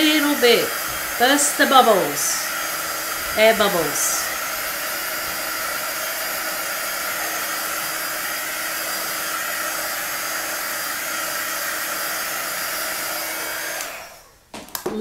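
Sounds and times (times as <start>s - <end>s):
heat wand hissing: 0.0s - 14.4s.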